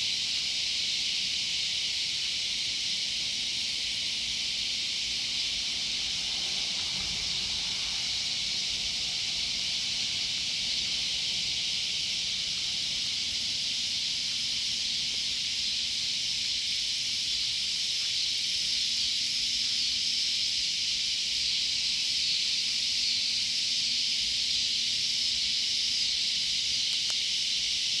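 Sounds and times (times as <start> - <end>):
cicadas buzzing: 0.0 - 28.0.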